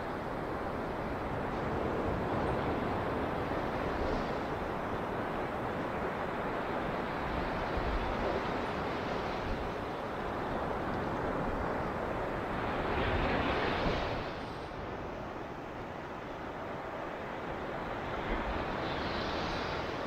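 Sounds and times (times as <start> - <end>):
waves breaking on a beach: 0.0 - 20.0.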